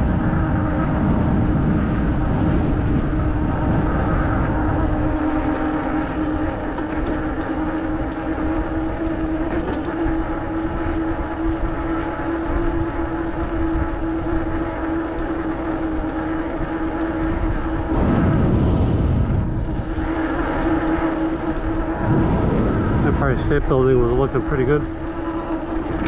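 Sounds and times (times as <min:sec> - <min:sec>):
road rumble: 0:00.0 - 0:26.0
vehicle engine hum: 0:00.0 - 0:26.0
wind noise: 0:00.0 - 0:26.0.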